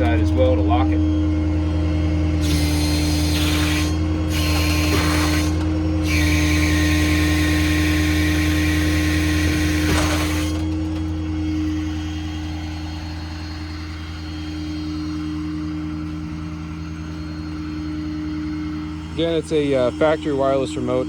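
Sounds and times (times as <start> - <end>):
diesel engine humming: 0.0 - 21.0
hydraulic valves hissing and whining: 0.0 - 21.0.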